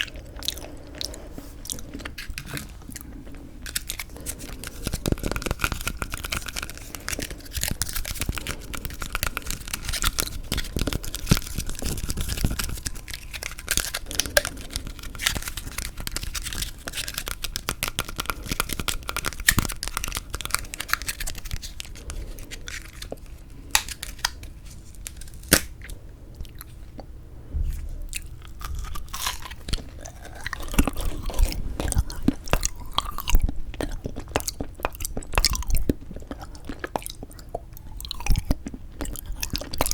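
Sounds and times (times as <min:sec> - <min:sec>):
crunchy chewing of frozen jelly: 0:00.0 - 0:39.9.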